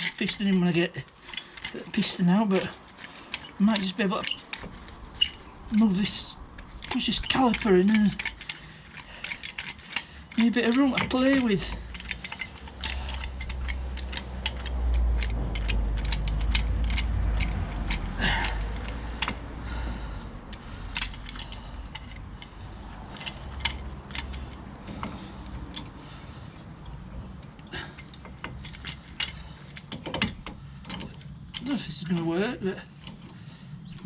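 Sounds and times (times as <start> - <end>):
hand tools clicking on metal: 0.0 - 26.2, 26.8 - 34.0.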